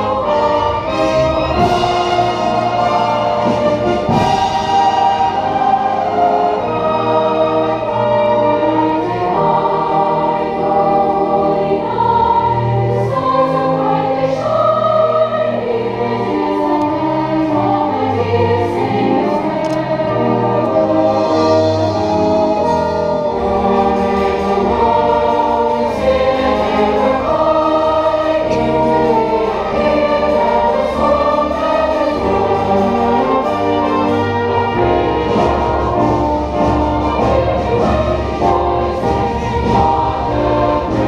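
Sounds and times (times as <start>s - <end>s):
choir singing: 0.0s - 41.0s
orchestra playing: 0.0s - 41.0s.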